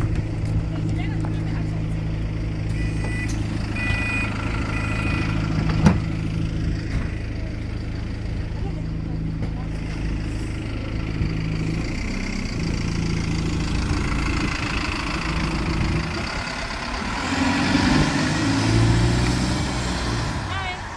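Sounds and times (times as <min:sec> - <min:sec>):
bus engine running: 0:00.0 - 0:20.9
high drivetrain whine: 0:00.0 - 0:20.9.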